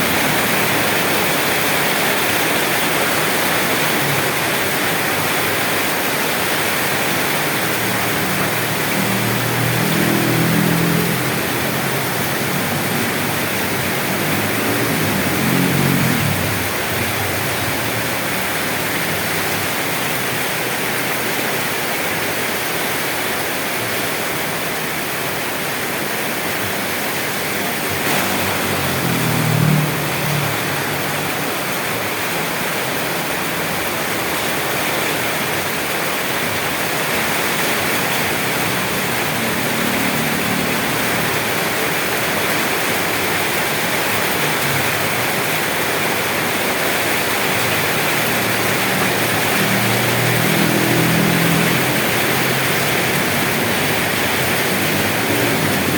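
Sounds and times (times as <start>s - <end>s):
heavy rainfall: 0.0s - 55.9s.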